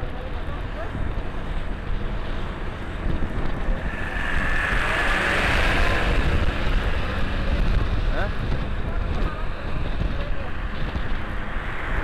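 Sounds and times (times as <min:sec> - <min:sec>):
motorcycle low rumble: 0:00.0 - 0:12.0
wind rushing over microphone: 0:00.0 - 0:12.0.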